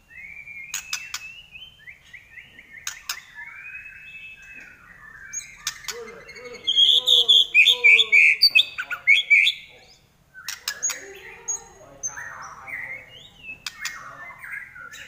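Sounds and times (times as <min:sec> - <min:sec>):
bird singing and whistling: 0:00.0 - 0:15.0.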